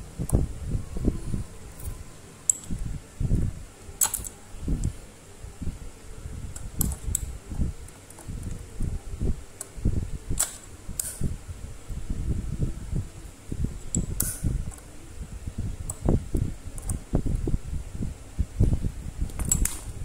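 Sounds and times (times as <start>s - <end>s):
low rumbling: 0.0s - 20.0s.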